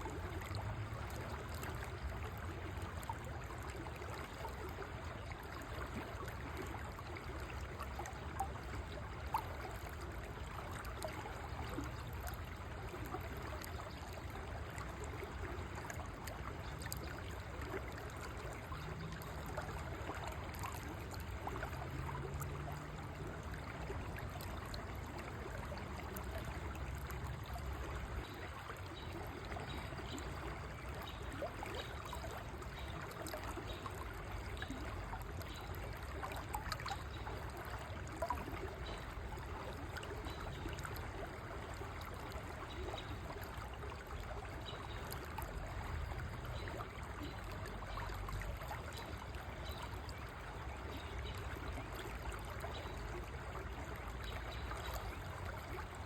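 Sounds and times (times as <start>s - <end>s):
river water babbling over stones: 0.0s - 56.0s.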